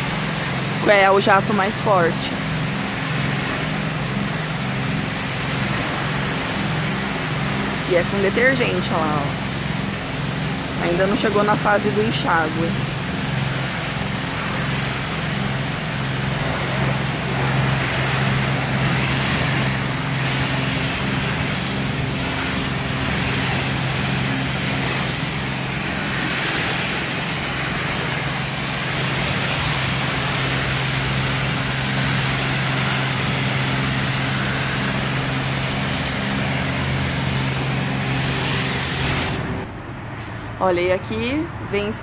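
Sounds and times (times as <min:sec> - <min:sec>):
pressure washer spray hissing: 0:00.0 - 0:39.7.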